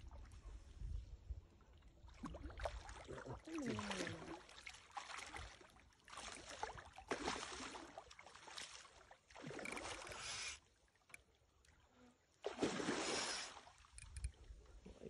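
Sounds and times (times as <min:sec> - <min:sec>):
water sloshing and splashing: 0:01.5 - 0:11.7, 0:12.4 - 0:15.0.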